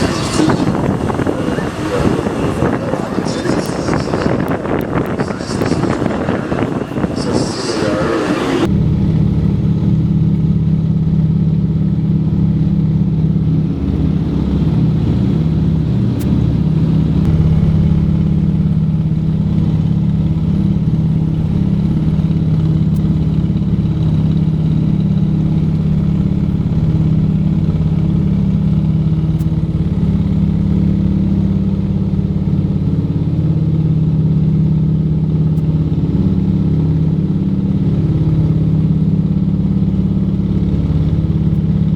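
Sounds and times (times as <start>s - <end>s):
aircraft engines droning: 0.0s - 41.9s.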